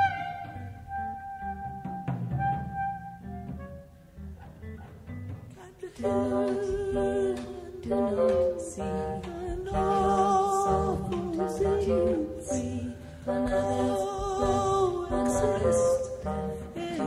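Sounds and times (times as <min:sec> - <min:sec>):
low instrumental accompaniment: 0:00.0 - 0:17.0.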